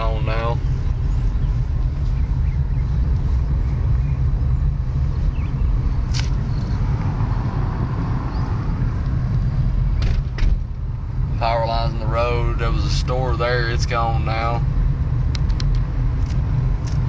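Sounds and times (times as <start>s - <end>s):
car interior engine and road noise: 0.0s - 17.0s.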